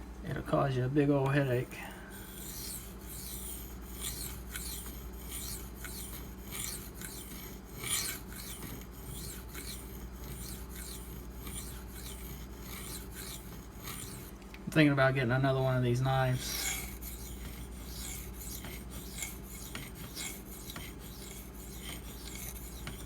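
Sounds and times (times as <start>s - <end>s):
knife scraping on sharpening stone: 2.1s - 14.4s, 16.3s - 23.0s.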